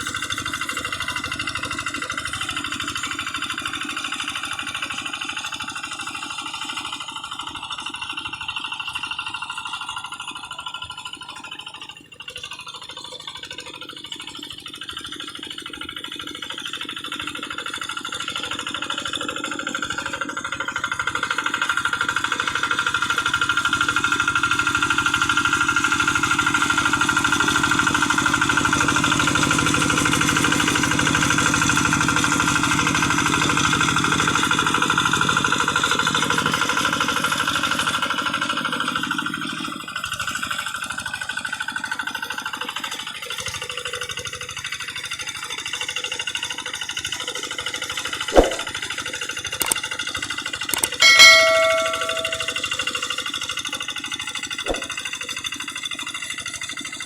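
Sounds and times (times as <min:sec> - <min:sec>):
diesel engine knocking: 0:00.0 - 0:48.1.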